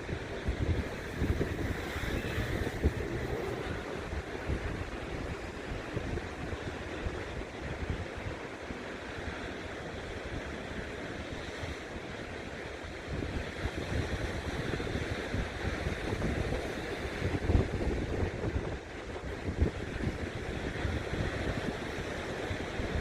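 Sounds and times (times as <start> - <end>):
ocean surf washing: 0.0 - 23.0
wind buffeting microphone: 0.0 - 23.0.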